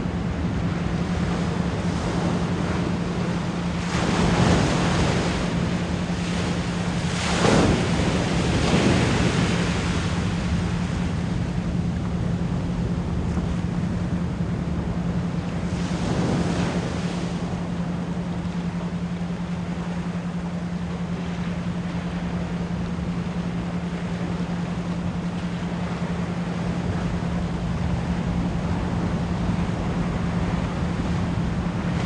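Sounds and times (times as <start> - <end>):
continuous pure tone: 0.0 - 32.0
ocean waves washing: 0.0 - 32.0.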